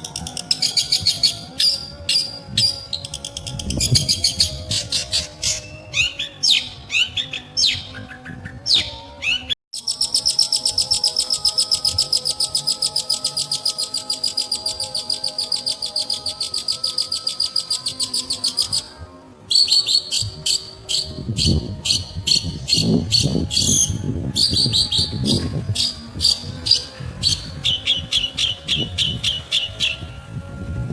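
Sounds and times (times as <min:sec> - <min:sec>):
bird whistling song: 0:00.0 - 0:30.2.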